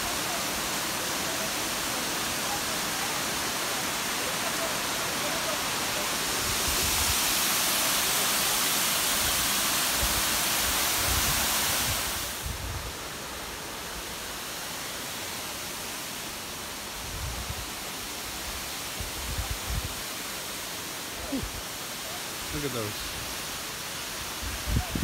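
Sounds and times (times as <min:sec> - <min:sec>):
waterfall rushing hiss: 0:00.0 - 0:25.0.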